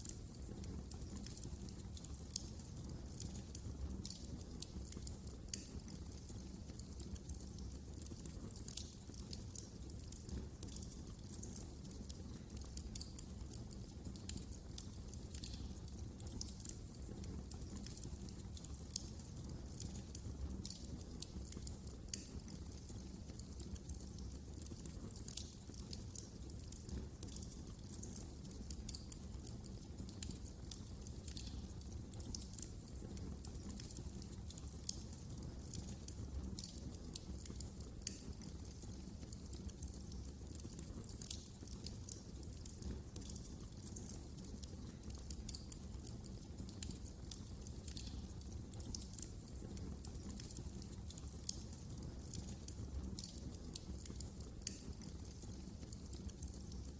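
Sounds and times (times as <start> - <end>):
low rumble of flames: 0.0 - 56.9
wood fire crackling: 0.0 - 56.9.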